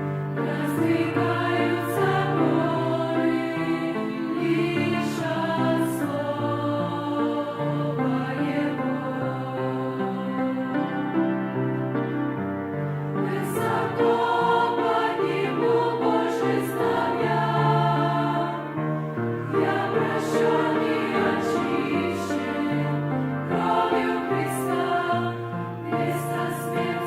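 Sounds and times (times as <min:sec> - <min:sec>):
church choir singing a hymn: 0:00.0 - 0:27.0.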